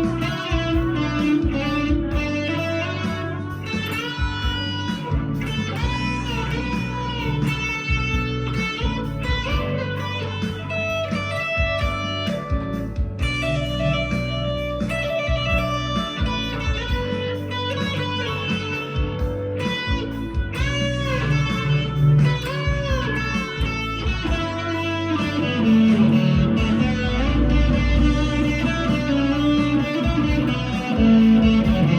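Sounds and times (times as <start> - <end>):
backing track bass: 0.0 - 31.9
backing track drums: 0.0 - 31.9
overdriven electric guitar solo: 0.0 - 31.9.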